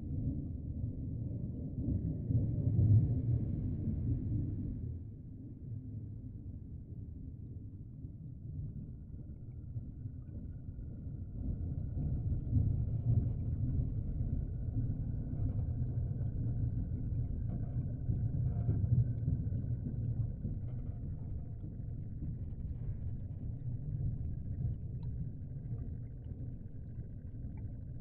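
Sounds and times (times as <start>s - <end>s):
aquarium water rumbling: 0.0s - 28.0s.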